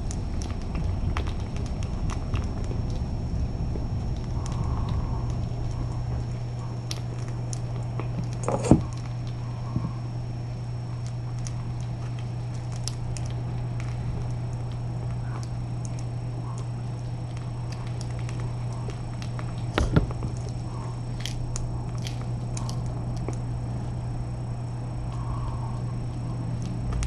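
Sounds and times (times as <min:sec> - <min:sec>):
kitten crunching dry kibble: 0:00.0 - 0:27.0
steady low hum: 0:00.0 - 0:27.0.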